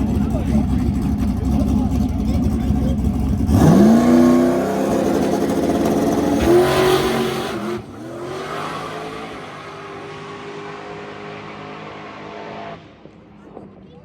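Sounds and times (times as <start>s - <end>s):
car engine revving hard: 0.9s - 13.0s.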